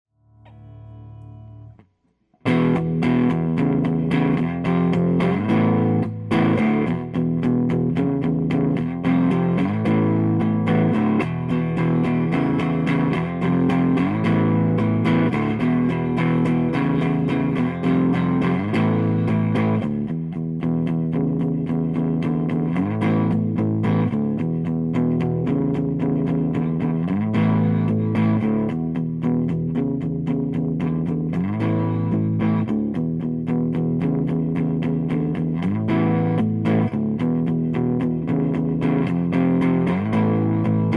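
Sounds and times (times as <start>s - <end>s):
electric guitar notes and chords: 0.2s - 40.9s.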